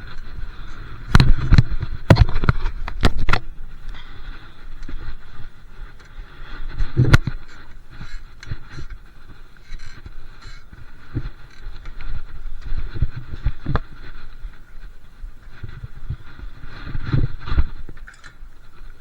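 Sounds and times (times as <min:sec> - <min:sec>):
bike rattling over bumps: 0:00.0 - 0:19.0.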